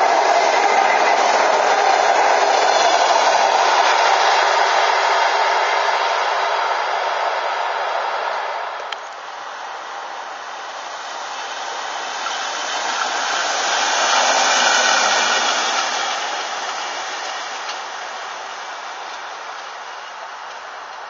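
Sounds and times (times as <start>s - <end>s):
rail maintenance vehicle passing: 0.0s - 21.0s.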